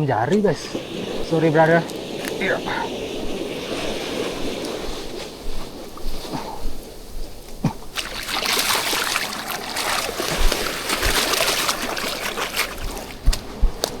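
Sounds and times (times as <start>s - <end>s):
sea water washing at shoreline: 0.0s - 14.0s.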